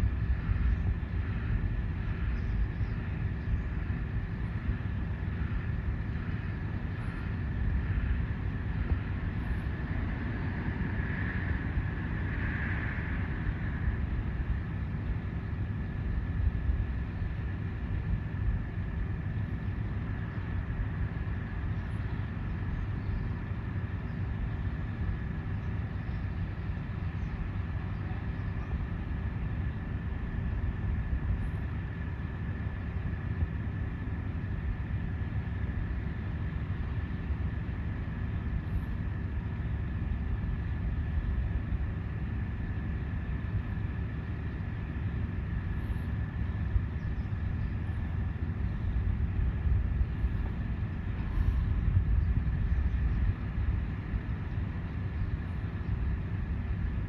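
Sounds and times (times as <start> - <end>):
machinery high whine: 0.0 - 57.0
machinery low drone: 0.0 - 57.0.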